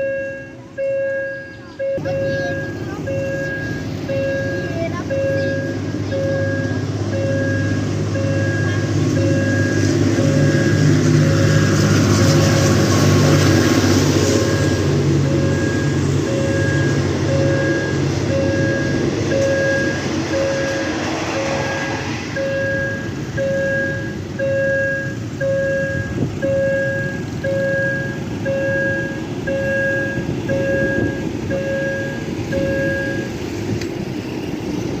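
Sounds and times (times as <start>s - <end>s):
level crossing signal beeping: 0.0s - 13.7s, 14.3s - 33.5s
train rumbling past: 0.0s - 35.0s.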